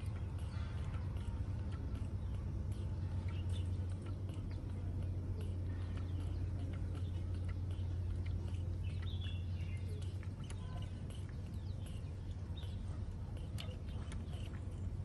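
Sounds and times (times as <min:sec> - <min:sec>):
monkey sucking from bottle: 0:00.0 - 0:15.0
steady low hum: 0:00.0 - 0:15.0.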